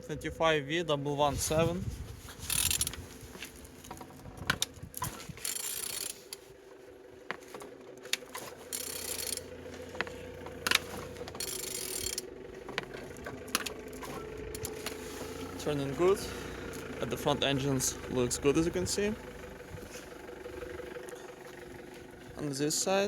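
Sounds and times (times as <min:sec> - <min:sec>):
engine turned over by hand: 0:01.2 - 0:23.0.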